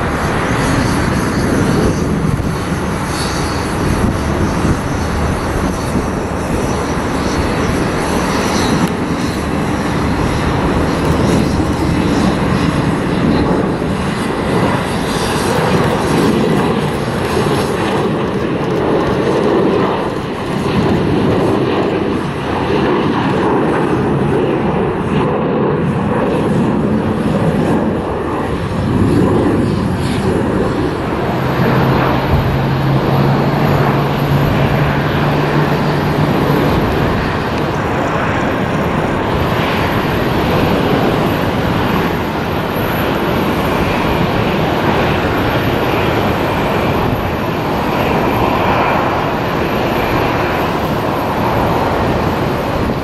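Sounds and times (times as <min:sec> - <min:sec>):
jet engines rumbling: 0:00.0 - 0:53.0.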